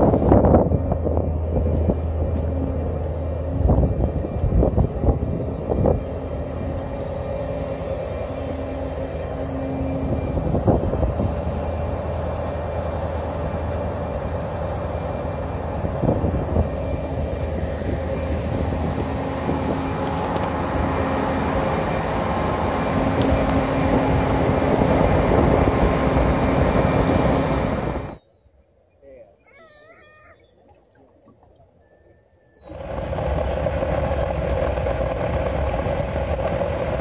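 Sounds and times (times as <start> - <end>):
churned wake water: 0.0 - 28.2, 29.9 - 37.0
ferry engines droning: 0.0 - 28.2, 32.6 - 37.0.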